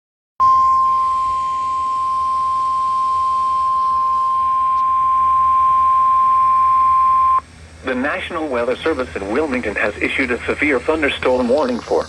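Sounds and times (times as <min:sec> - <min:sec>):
steady radio warning tone: 0:00.4 - 0:12.0.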